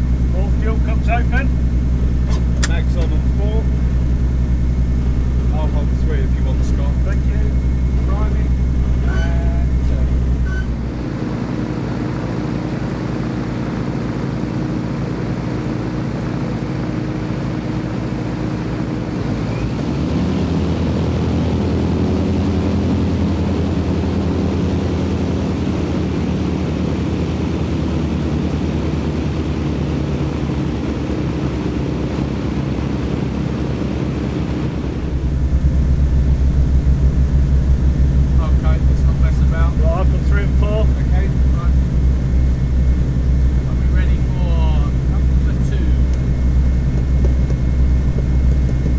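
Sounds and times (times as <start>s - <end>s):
propeller aircraft engines droning: 0.0s - 48.9s.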